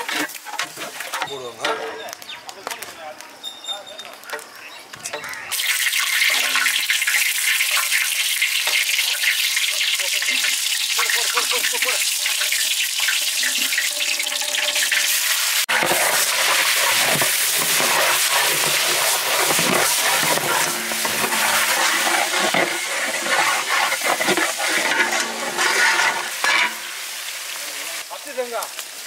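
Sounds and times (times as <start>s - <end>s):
onions sizzling in hot oil: 4.2s - 29.0s.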